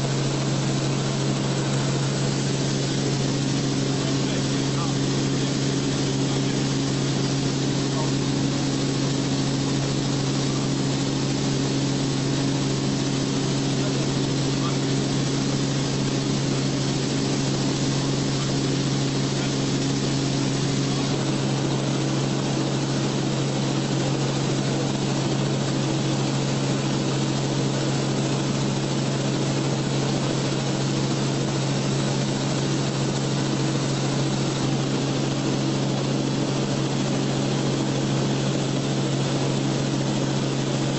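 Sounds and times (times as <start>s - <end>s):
small aircraft engine drone: 0.0s - 40.9s.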